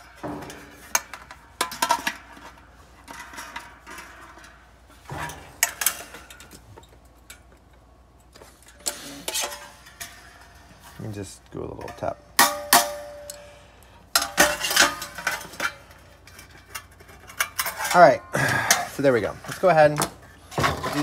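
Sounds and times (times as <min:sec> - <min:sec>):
sheet metal clattering and clinking: 0:00.0 - 0:13.5, 0:14.1 - 0:21.0.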